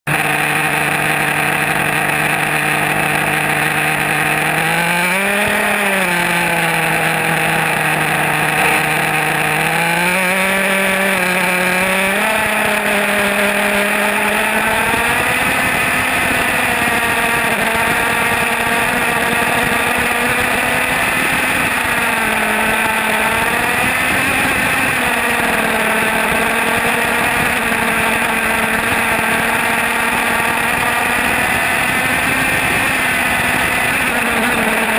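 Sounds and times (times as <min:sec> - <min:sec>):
small model engine running: 0:00.1 - 0:34.9.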